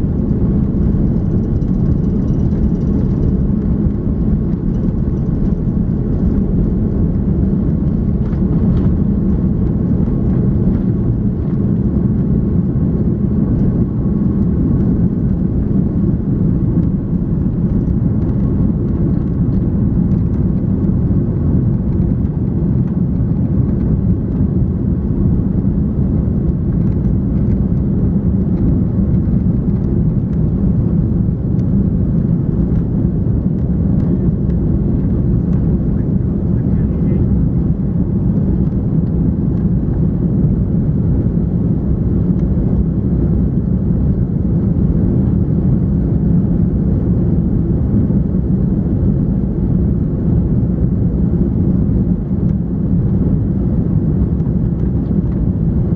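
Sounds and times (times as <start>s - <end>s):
airplane cabin low rumble: 0.0s - 55.9s.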